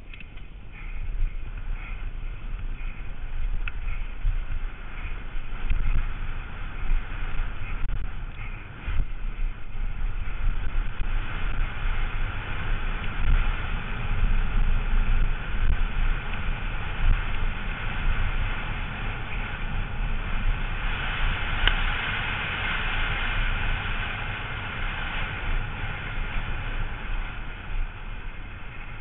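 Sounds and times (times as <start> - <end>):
bike rattles: 0.0 - 29.0
wind buffeting microphone: 0.0 - 29.0.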